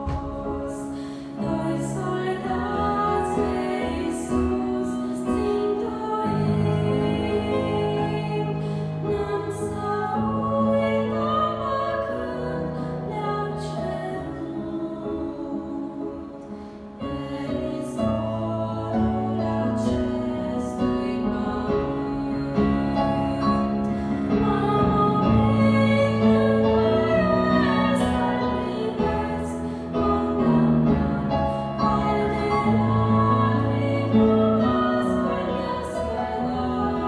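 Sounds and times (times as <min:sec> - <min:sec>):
digital piano: 0:00.0 - 0:37.0
women singing a hymn: 0:00.0 - 0:37.0.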